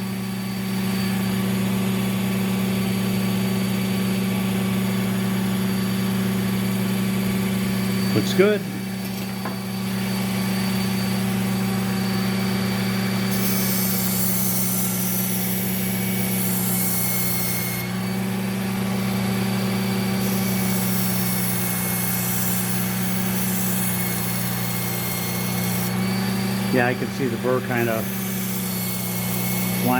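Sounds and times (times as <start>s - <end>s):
sharpening machine motor humming: 0.0s - 29.9s.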